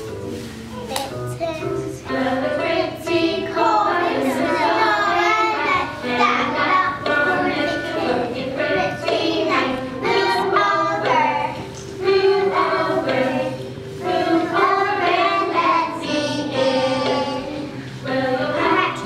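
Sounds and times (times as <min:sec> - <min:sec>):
children singing together: 0:02.0 - 0:19.0.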